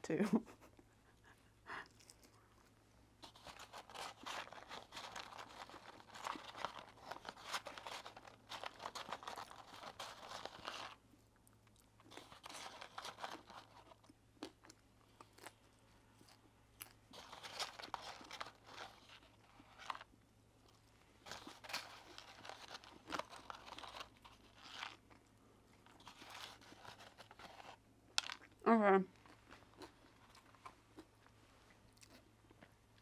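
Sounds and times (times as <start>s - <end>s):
crunchy chewing of fries: 1.7s - 33.0s.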